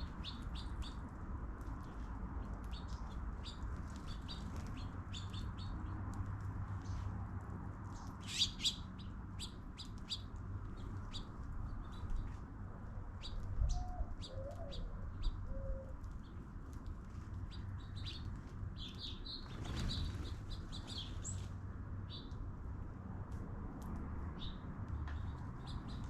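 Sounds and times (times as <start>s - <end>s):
songbirds chirping: 0.0s - 7.2s, 7.8s - 22.5s, 24.3s - 26.0s.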